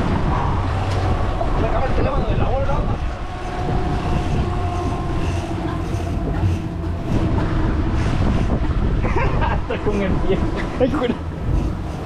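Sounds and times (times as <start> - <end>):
boat motor running: 0.0 - 12.0
water noise: 0.0 - 12.0
wind: 0.0 - 12.0.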